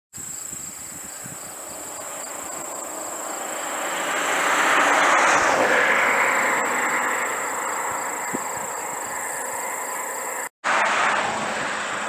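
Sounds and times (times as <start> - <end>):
harvesting machinery noise: 1.3 - 12.0.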